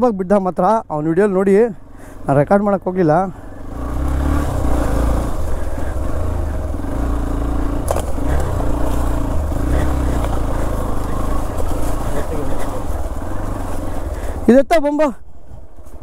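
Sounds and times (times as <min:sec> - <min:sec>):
motorcycle engine revving: 0:01.3 - 0:14.6.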